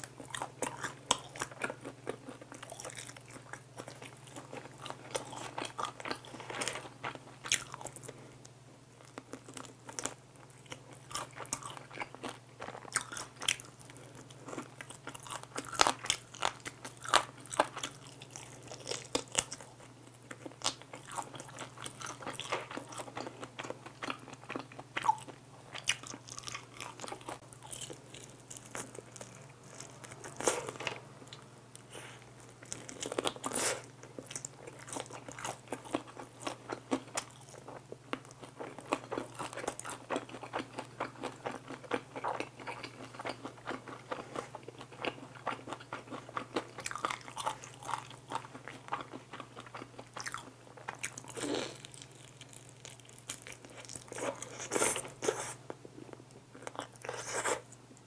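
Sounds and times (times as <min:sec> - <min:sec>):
crunching fried chicken: 0:00.0 - 0:57.8.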